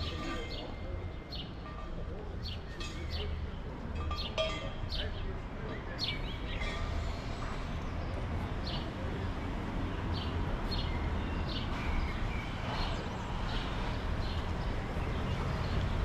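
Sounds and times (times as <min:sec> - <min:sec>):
low street rumble: 0:00.0 - 0:16.0.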